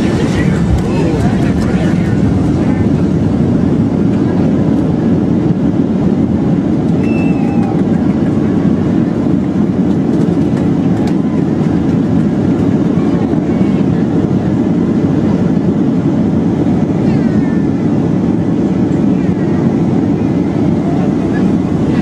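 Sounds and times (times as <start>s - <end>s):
airplane cabin roar: 0.0s - 22.0s.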